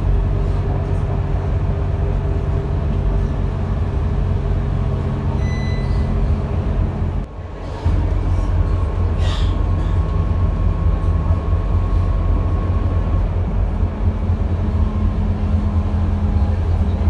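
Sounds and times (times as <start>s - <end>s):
bus diesel engine drone: 0.0s - 17.0s.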